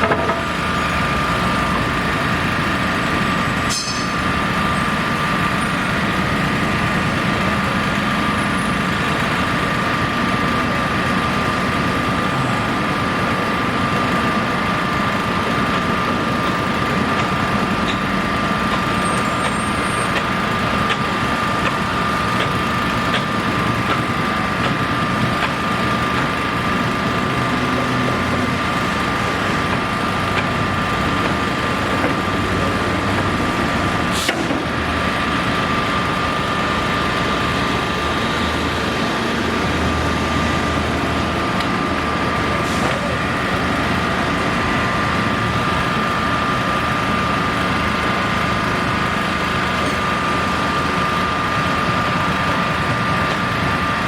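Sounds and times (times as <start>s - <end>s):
engine running with high whine: 0.0s - 54.0s.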